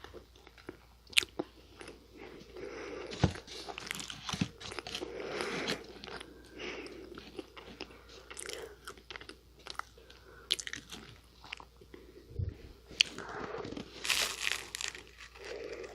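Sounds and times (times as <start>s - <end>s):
crunchy pastry being chewed: 0.0s - 2.0s, 3.1s - 12.0s, 12.9s - 15.9s.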